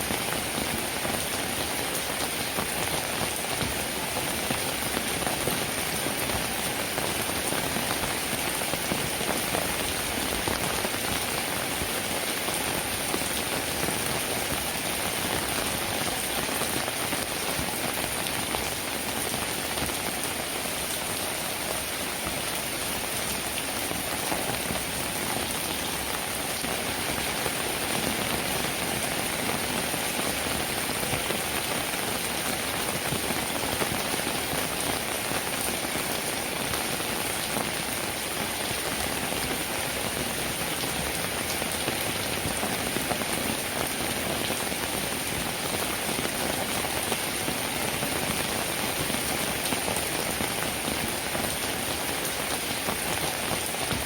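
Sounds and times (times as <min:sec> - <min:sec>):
louder raindrops: 0:00.0 - 0:54.0
steady rainfall: 0:00.0 - 0:54.0.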